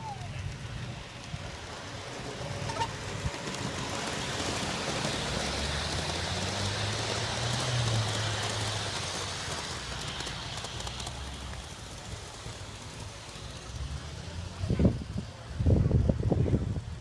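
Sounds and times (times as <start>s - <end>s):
model train wheels rumbling: 0.0s - 17.0s.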